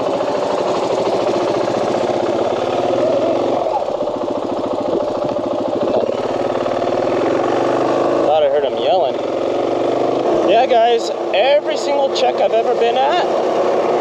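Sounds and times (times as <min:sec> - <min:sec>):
motorcycle engine pulling away: 0:00.0 - 0:14.0.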